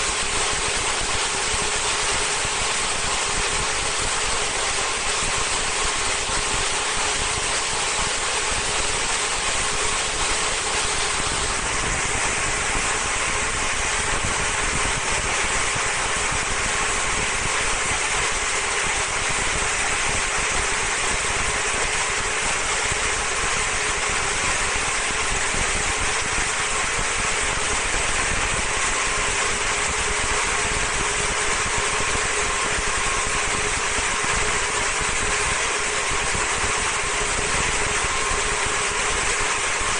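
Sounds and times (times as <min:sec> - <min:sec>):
machine humming with hiss: 0:00.0 - 0:39.9.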